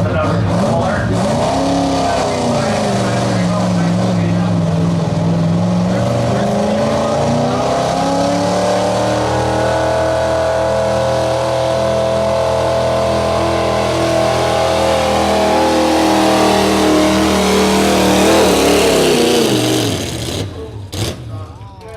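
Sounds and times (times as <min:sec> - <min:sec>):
truck engine revving under load: 0:00.0 - 0:21.6.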